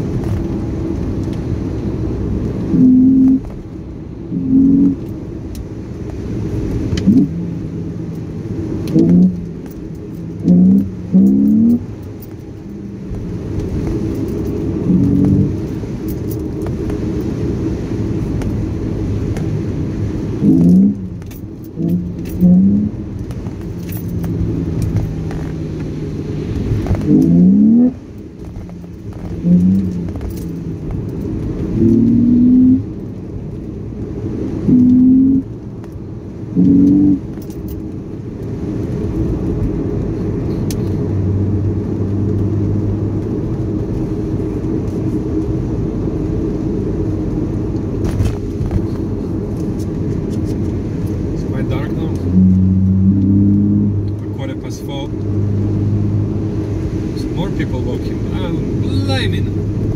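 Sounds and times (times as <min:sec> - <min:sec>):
car engine from inside cabin: 0:00.0 - 0:59.9
tyre and road noise: 0:00.0 - 0:59.9.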